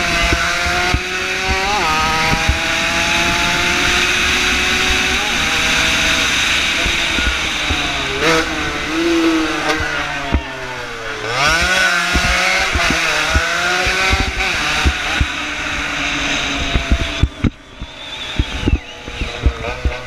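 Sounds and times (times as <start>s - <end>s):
motorcycle engine revving: 0.0s - 20.0s
wind buffeting microphone: 0.0s - 20.0s.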